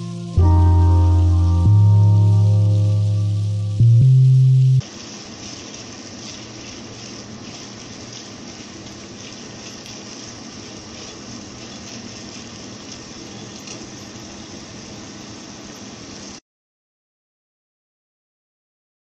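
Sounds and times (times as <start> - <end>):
vegetables sizzling in hot oil: 1.0 - 16.4.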